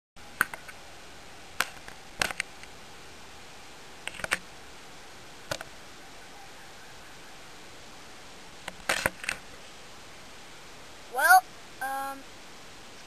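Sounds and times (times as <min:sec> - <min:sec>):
faint steady hiss: 0:00.2 - 0:13.0.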